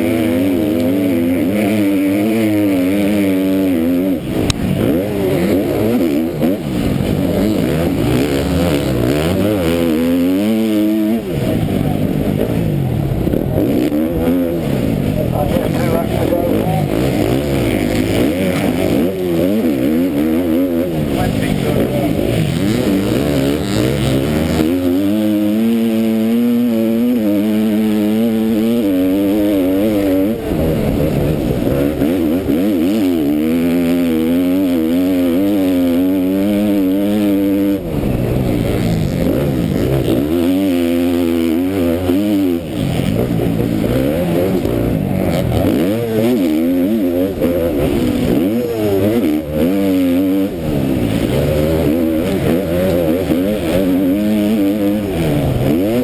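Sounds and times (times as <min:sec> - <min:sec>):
motocross bike engine revving: 0:00.0 - 0:56.0
steady rushing noise: 0:01.2 - 0:56.0.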